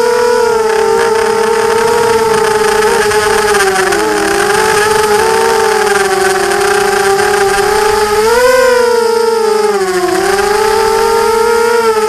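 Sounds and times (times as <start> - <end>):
quadcopter motors buzzing whine: 0.0 - 12.0.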